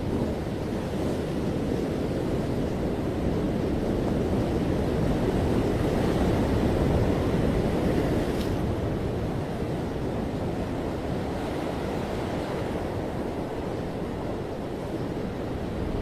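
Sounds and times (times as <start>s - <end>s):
ocean waves breaking: 0.0s - 16.0s
wind on microphone: 0.0s - 16.0s.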